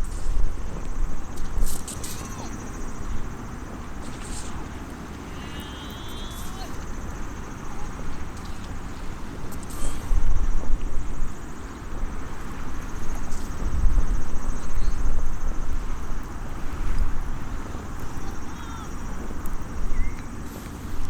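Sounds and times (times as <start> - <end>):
campfire crackles: 0.0 - 21.0
wind gusting on microphone: 0.0 - 21.0.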